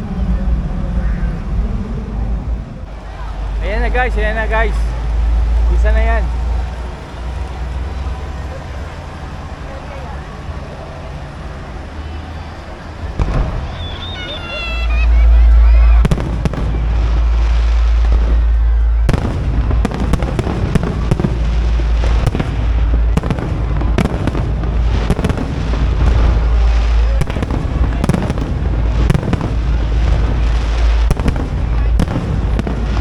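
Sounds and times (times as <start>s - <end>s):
low rumble: 0.0s - 33.0s
fireworks bangs and crackling: 2.5s - 33.0s.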